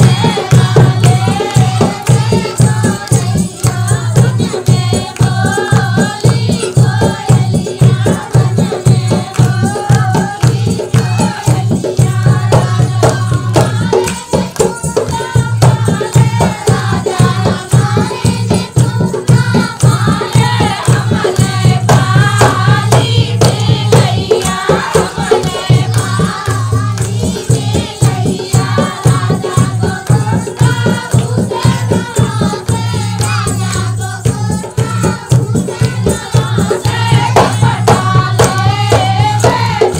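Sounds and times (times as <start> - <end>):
fast drum beat: 0.0 - 39.9.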